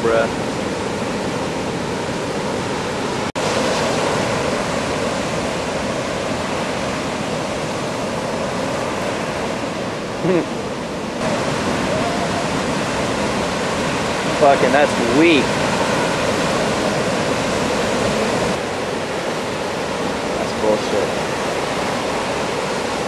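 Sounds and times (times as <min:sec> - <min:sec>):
ocean surf rushing: 0:00.0 - 0:23.0.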